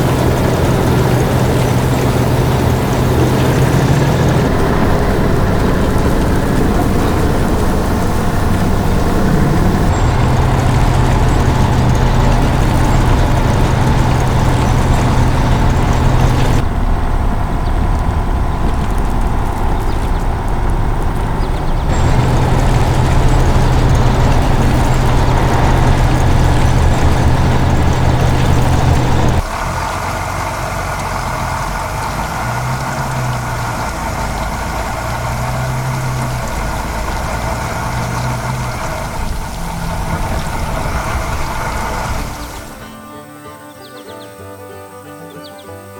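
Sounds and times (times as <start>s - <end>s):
heavy machine engine humming: 0.0s - 43.2s.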